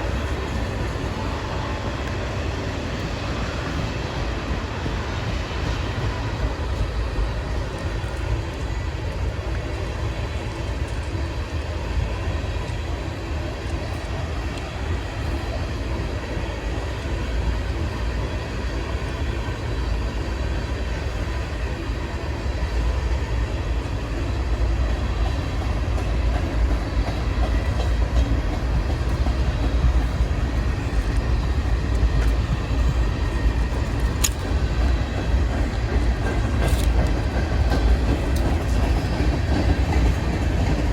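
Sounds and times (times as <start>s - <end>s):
freight train rumbling on rails: 0.0s - 40.9s.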